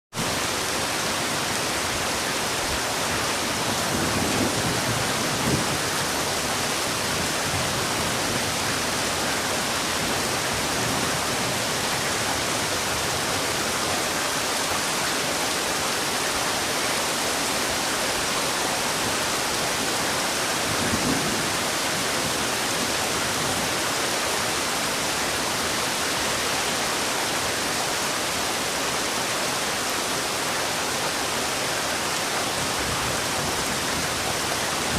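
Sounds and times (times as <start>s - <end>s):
heavy rain hissing: 0.2s - 34.9s.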